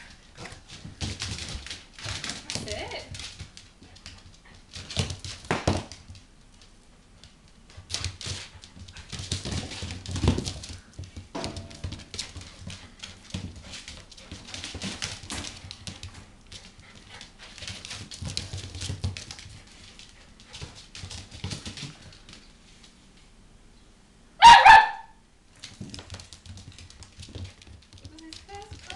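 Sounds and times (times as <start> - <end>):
dogs scuffling on carpet: 0.0 - 23.0, 25.6 - 28.9
paw patter: 0.0 - 23.0, 25.5 - 28.9.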